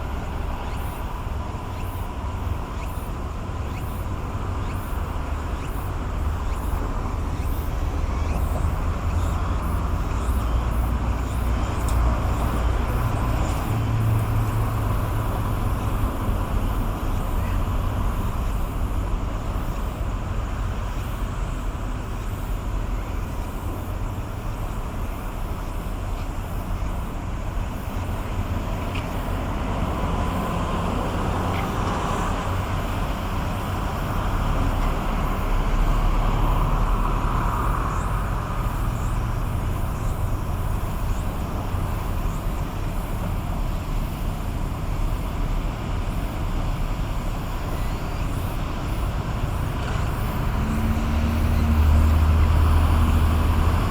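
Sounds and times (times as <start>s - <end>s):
outdoor noise: 0.0s - 53.9s.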